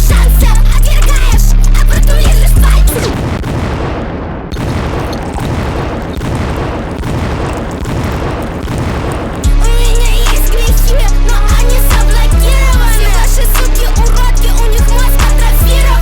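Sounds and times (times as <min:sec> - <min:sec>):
hip-hop beat: 0:00.0 - 0:03.2, 0:05.0 - 0:16.0.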